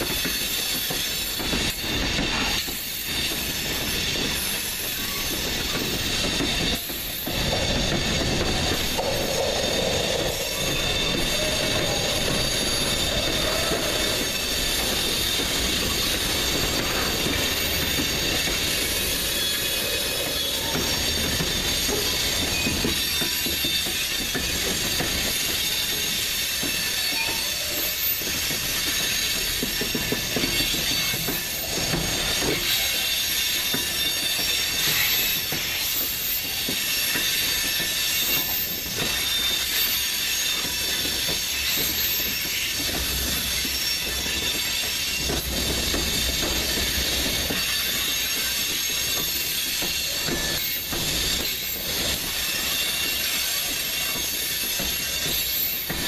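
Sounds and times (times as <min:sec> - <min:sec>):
train wheel clatter over track: 0:00.0 - 0:56.0
train wheels squealing on rails: 0:00.0 - 0:56.0.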